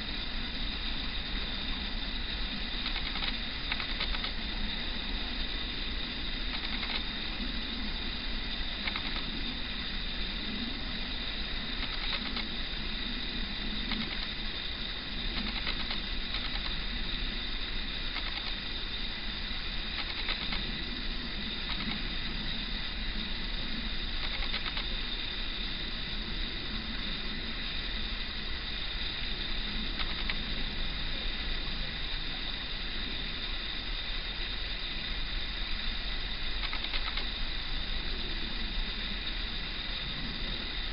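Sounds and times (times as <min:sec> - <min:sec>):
wind hiss: 0:00.0 - 0:40.9.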